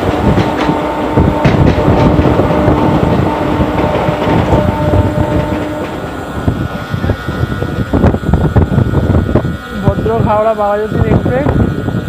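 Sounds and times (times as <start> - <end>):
steady hum: 0.0 - 12.0
train wheels rumbling and rattling: 0.0 - 12.0.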